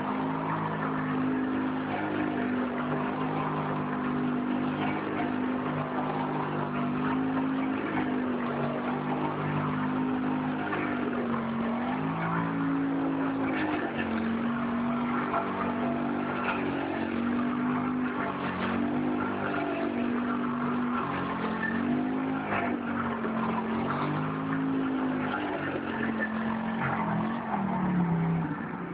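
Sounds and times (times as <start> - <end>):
atv engine revving: 0.0 - 28.9.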